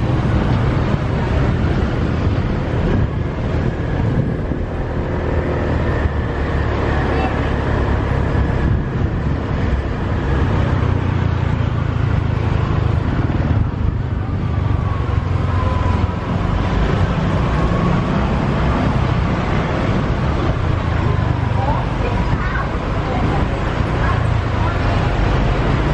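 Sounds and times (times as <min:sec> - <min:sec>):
road noise: 0:00.0 - 0:25.9.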